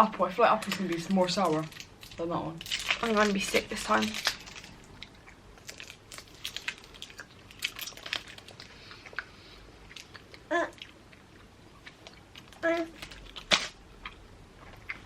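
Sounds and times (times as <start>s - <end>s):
person chewing hard candy: 0.6s - 15.0s.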